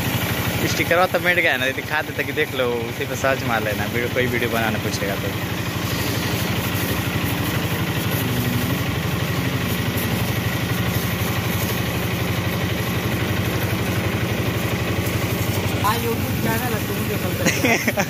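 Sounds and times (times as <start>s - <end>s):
pressure water jet hissing: 0.0s - 18.0s
pulsing motor running: 0.0s - 18.0s.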